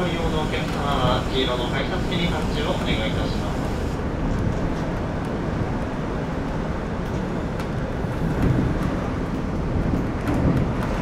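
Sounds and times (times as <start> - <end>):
monorail car rumble and hiss: 0.0 - 11.0.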